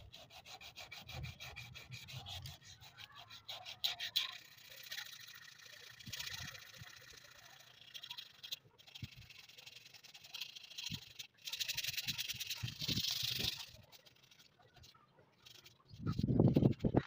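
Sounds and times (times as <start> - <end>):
sandpaper rubbing metal: 0.0 - 17.0.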